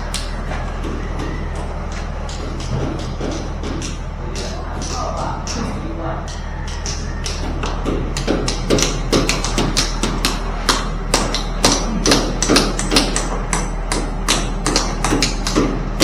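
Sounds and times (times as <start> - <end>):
hammer strikes: 0.0 - 16.0.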